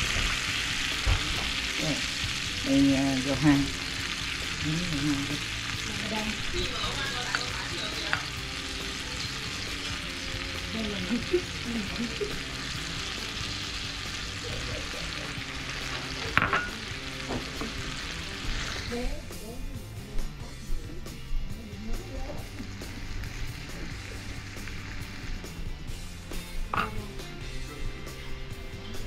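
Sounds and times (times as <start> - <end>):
food sizzling in frying pan: 0.0 - 29.0.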